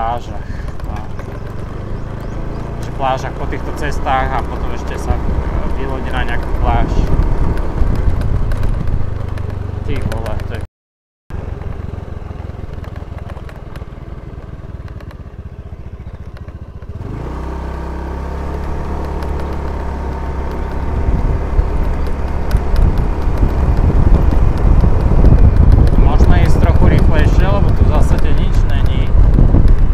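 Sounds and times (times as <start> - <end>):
motor scooter engine running: 0.0 - 10.6, 11.3 - 29.9
wind rumbling on microphone: 0.0 - 10.6, 11.5 - 29.9.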